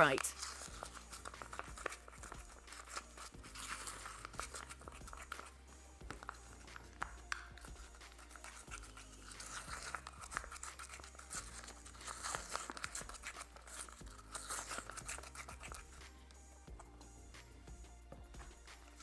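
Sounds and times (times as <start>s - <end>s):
adhesive scraping: 0.2s - 16.0s.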